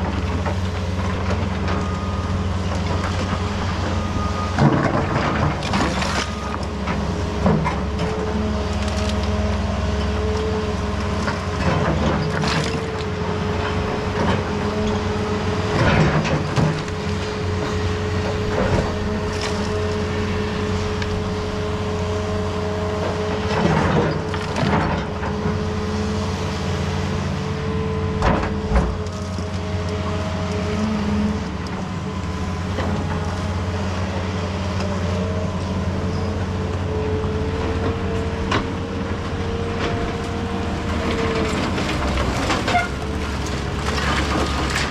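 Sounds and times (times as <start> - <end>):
diesel construction machinery running: 0.0 - 44.9.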